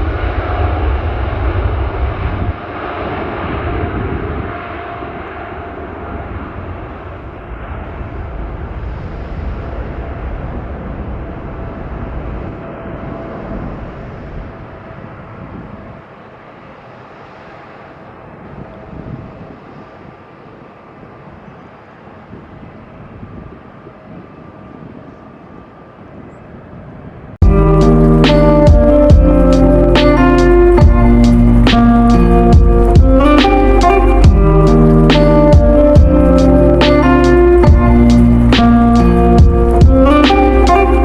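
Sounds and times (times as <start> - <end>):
jet engine rumble at takeoff: 0.0 - 41.0.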